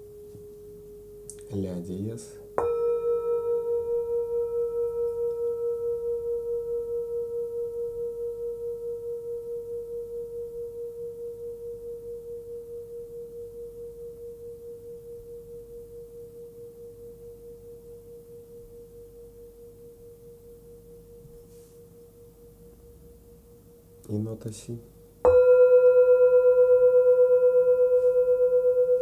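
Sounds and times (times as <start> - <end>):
singing bowl ringing: 0.0 - 24.0, 25.2 - 29.0.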